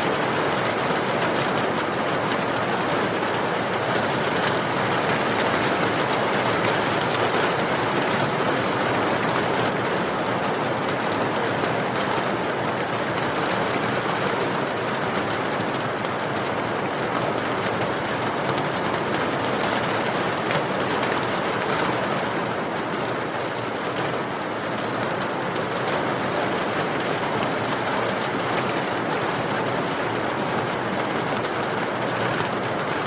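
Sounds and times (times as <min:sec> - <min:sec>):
steady rain pouring: 0:00.0 - 0:33.0.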